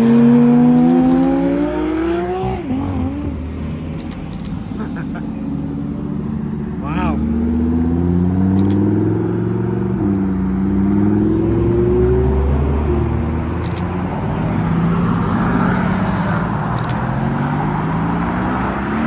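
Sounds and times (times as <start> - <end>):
car engine accelerating: 0.0 - 4.5, 5.2 - 19.0.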